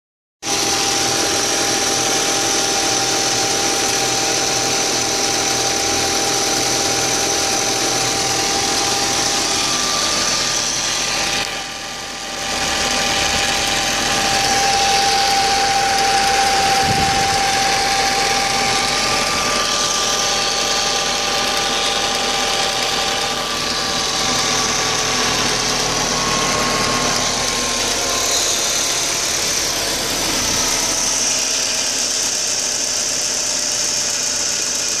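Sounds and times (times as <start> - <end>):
car engine idling roughly: 0.5 - 35.0.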